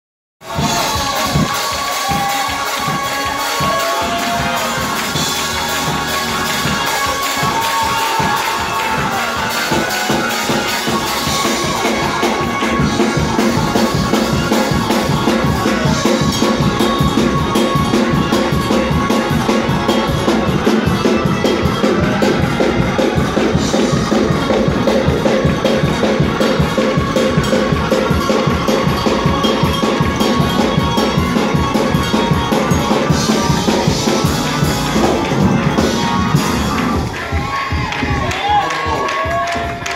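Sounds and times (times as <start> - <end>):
drum kit beat: 0.4 - 39.9
gospel organ playing: 0.4 - 39.9.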